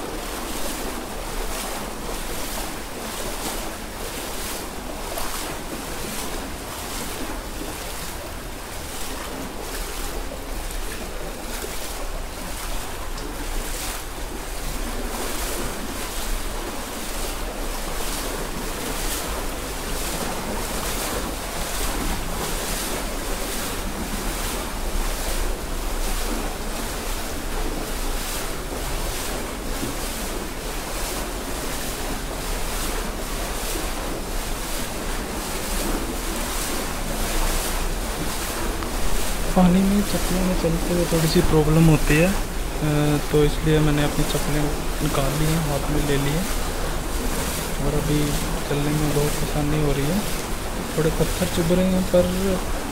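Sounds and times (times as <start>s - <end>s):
splashes of wading: 0.0s - 52.9s
stream water rushing over stones: 0.0s - 52.9s.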